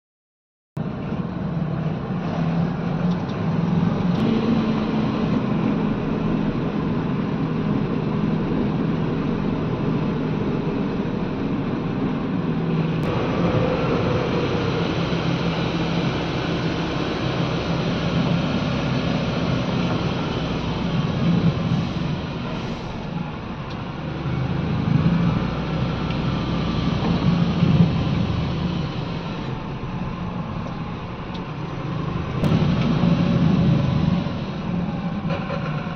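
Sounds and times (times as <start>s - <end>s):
excavator diesel engine: 0.8s - 35.9s.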